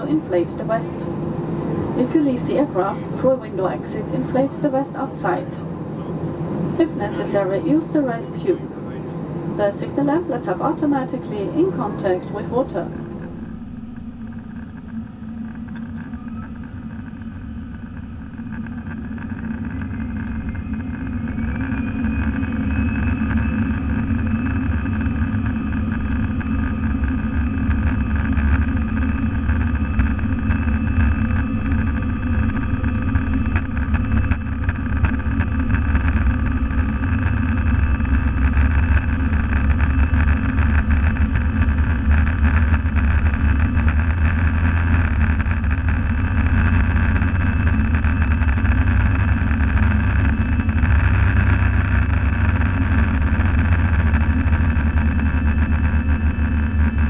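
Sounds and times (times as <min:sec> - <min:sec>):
jet engines whining: 0:00.0 - 0:57.0
wheels rumbling on runway: 0:00.0 - 0:57.0.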